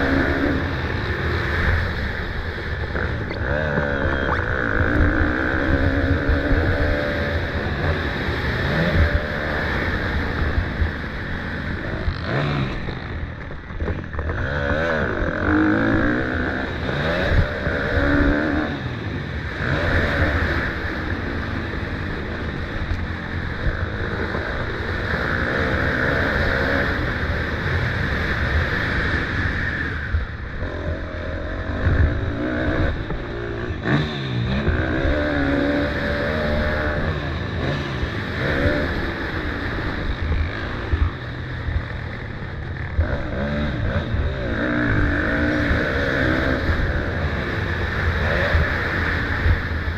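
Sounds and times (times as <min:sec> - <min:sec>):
motocross bike engines revving: 0:00.0 - 0:49.9.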